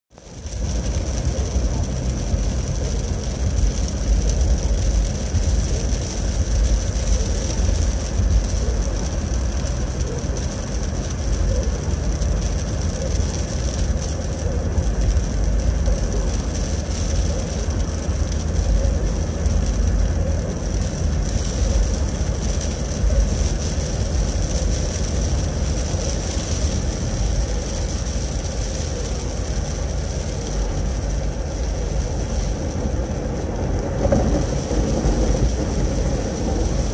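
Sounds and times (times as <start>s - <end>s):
road and engine rumble: 0.0s - 36.9s
constant high hiss: 0.2s - 36.9s.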